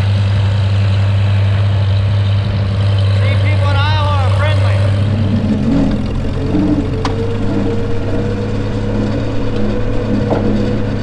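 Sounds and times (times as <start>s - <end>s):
steady whine: 0.0s - 11.0s
tractor engine running: 0.0s - 11.0s.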